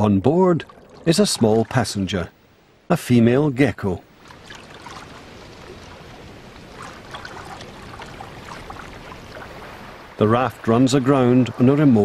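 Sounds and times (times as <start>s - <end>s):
water lapping and splashing: 0.0s - 2.2s, 4.1s - 12.0s.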